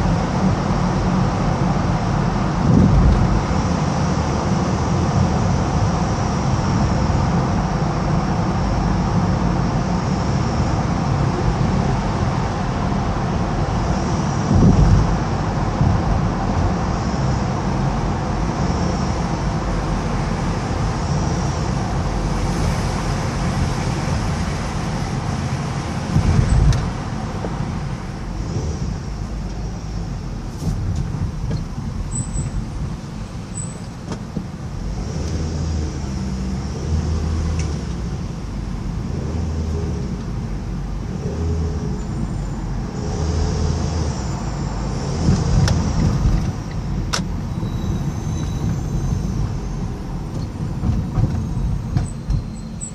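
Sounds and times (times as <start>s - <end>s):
road and engine rumble: 0.0s - 52.9s.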